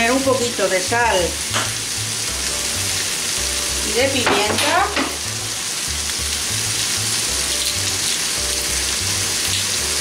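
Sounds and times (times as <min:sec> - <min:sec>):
background music with bass line: 0:00.0 - 0:10.0
food sizzling in a wok: 0:00.0 - 0:10.0.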